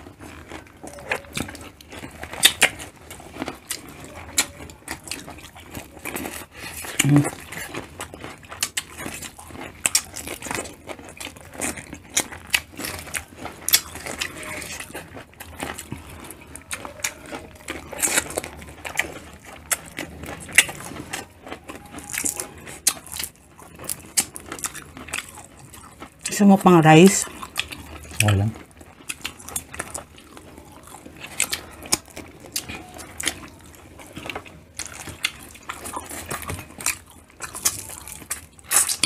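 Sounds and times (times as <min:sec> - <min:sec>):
chewing and lip smacking: 0:00.0 - 0:39.0.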